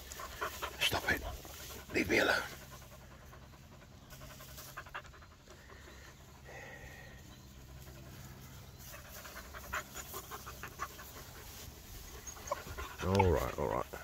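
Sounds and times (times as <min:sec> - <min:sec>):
puppy panting: 0:00.0 - 0:14.0.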